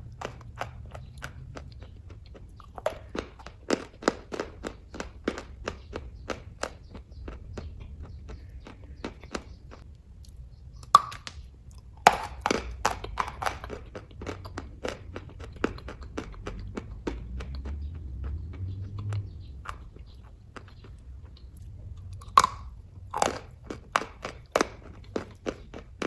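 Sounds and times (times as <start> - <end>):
chewing mouth clicks and smacks: 0.0 - 26.0.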